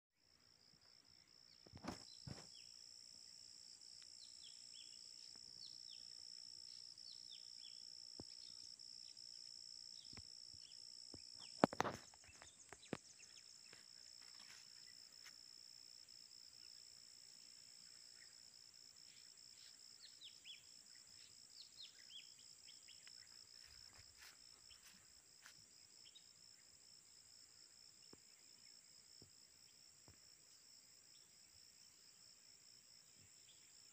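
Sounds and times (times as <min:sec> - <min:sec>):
insects droning: 0:00.2 - 0:33.9.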